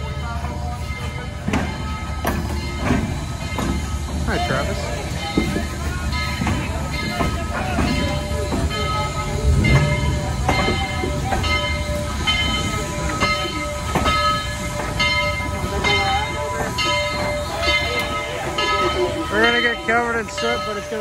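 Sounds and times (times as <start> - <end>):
locomotive bell ringing: 0.0 - 21.0
train rumbling by: 0.0 - 21.0.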